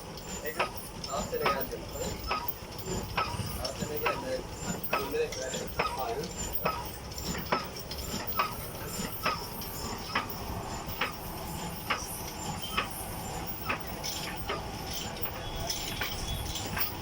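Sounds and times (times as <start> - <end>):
rhythmic knocking: 0.0 - 17.0.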